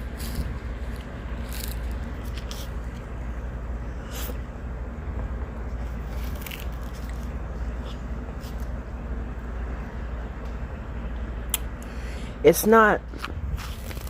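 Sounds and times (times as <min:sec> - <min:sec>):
low rumble: 0:00.0 - 0:12.4.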